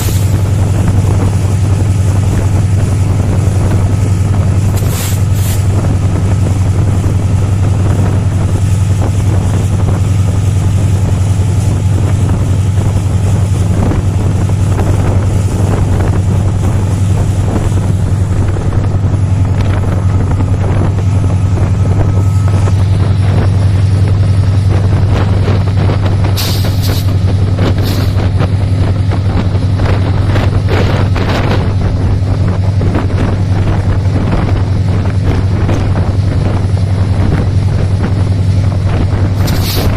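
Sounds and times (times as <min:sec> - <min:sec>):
rattling clicks of train: 0:00.0 - 0:39.9
train rumbling: 0:00.0 - 0:39.9
wind buffeting microphone: 0:00.0 - 0:39.9.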